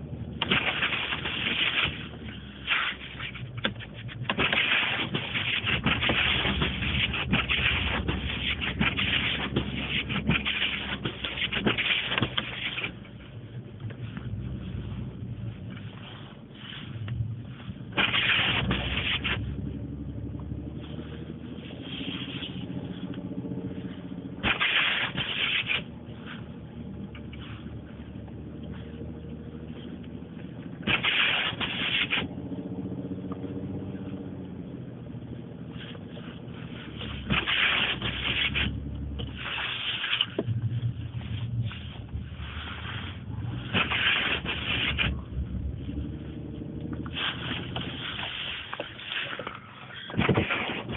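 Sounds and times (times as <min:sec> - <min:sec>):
truck engine running: 0:00.0 - 0:50.9
loud scraping swish: 0:00.4 - 0:13.0, 0:14.0 - 0:19.9, 0:20.7 - 0:26.6, 0:30.8 - 0:32.4, 0:35.6 - 0:50.9.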